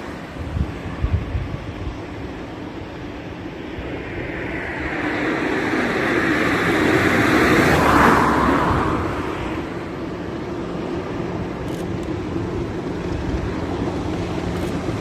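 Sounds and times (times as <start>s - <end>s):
diesel locomotive passing: 0.0s - 15.0s.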